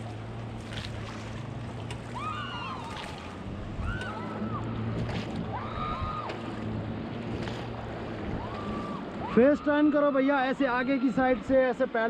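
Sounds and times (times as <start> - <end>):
paddles splashing: 0.0 - 12.0
river water rushing: 0.0 - 12.0.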